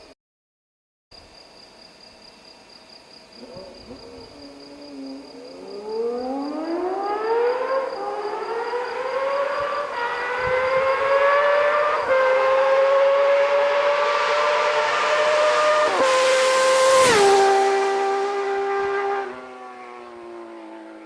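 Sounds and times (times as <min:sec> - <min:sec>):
motorcycle engine accelerating: 0:03.4 - 0:21.0.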